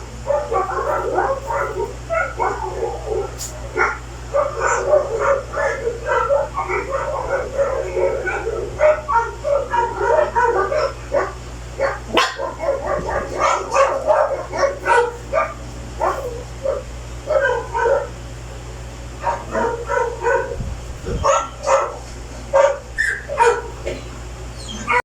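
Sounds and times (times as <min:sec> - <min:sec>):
steady low hum: 0:00.0 - 0:25.0
dog barking and yipping: 0:00.2 - 0:18.2, 0:19.2 - 0:23.9, 0:24.6 - 0:25.0.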